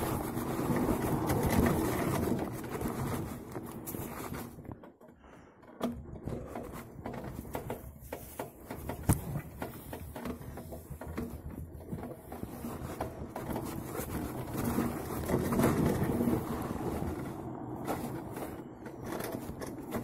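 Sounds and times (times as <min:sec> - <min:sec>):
bike rattling on dirt trail: 0:00.0 - 0:20.0.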